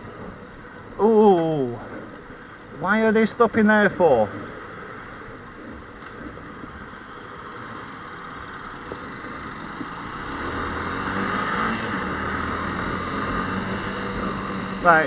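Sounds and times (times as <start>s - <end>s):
motorcycle engine: 0.0s - 15.0s
road and wind noise: 0.0s - 15.0s.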